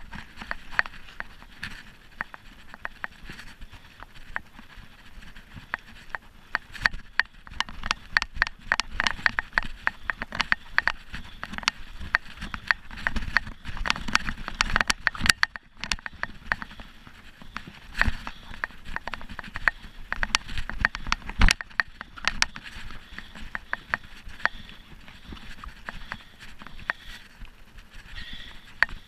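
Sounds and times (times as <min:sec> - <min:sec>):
mountain bike clattering on dirt trail: 0:00.0 - 0:29.0.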